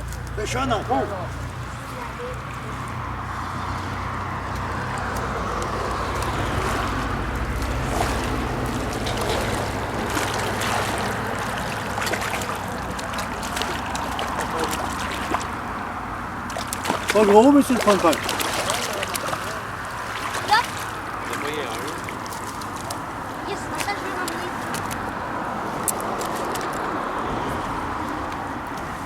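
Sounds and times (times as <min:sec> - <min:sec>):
water rushing and sloshing: 0:00.0 - 0:29.0.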